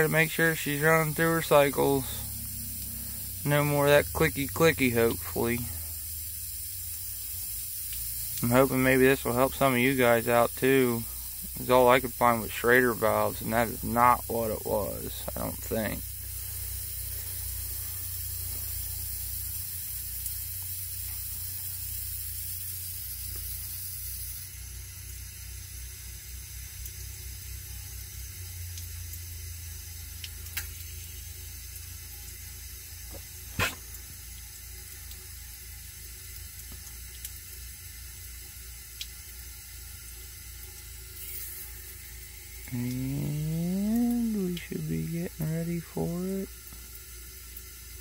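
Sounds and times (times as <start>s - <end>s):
water hissing from leaky hose: 0.0s - 48.0s
water pump humming: 0.0s - 48.0s.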